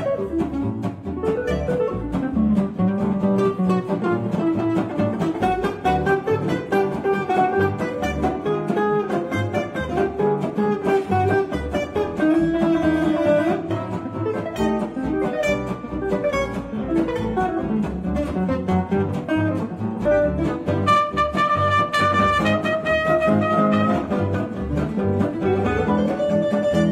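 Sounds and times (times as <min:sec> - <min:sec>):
acoustic guitar lead line: 0:00.0 - 0:26.9
double bass: 0:00.0 - 0:26.9
strummed rhythm guitars: 0:00.0 - 0:26.9.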